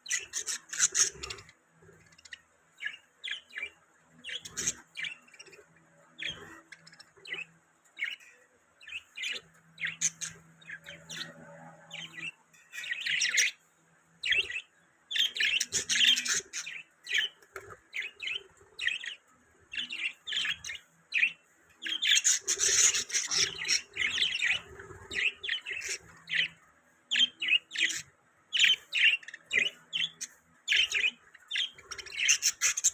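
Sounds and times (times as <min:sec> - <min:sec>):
budgerigars chirping: 0:00.1 - 0:05.6, 0:08.8 - 0:11.4, 0:12.0 - 0:13.6, 0:14.2 - 0:32.9.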